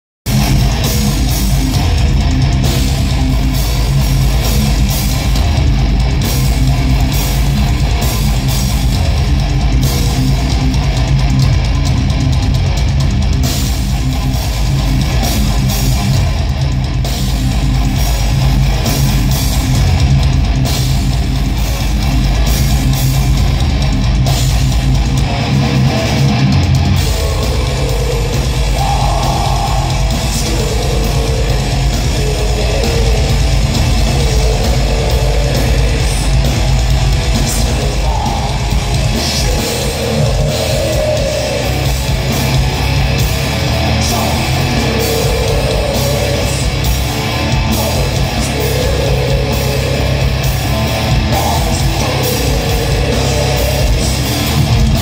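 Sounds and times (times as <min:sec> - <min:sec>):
heavy metal band playing live: 0:00.2 - 0:55.0.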